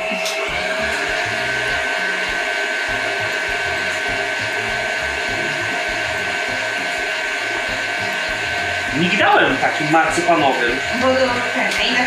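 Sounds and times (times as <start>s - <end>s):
electric mixer whirring: 0.0s - 12.0s.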